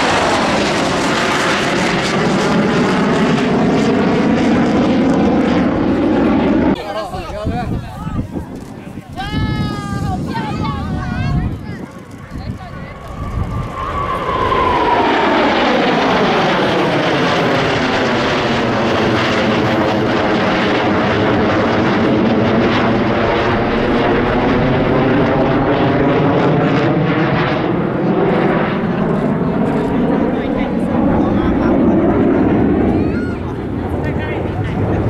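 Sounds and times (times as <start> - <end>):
falling jet whine: 0.0 - 7.1, 9.5 - 35.0
jet roar: 0.0 - 35.0.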